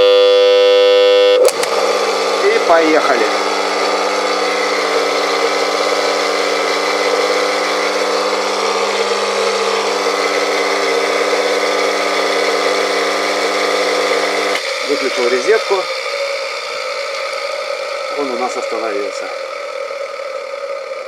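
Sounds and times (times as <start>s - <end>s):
electric motor humming: 0.0s - 21.0s
motor bearings droning: 0.0s - 21.0s.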